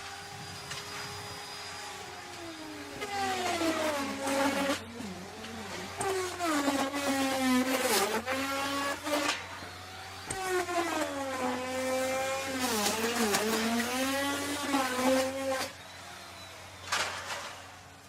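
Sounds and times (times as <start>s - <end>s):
router bit cutting wood: 0.0s - 18.0s
wood router motor: 0.0s - 18.0s.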